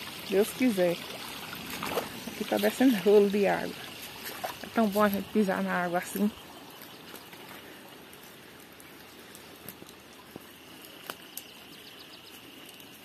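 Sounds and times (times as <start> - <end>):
rainwater flowing across ground: 0.0 - 13.0.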